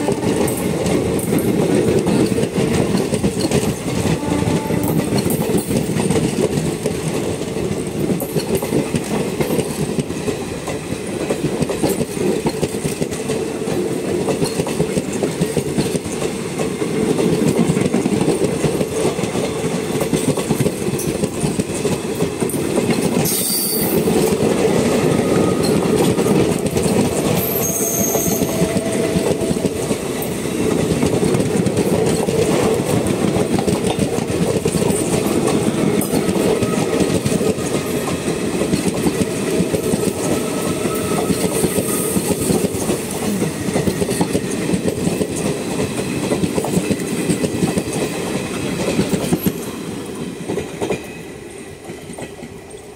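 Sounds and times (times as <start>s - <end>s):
train coaches rumbling past: 0.0s - 52.9s.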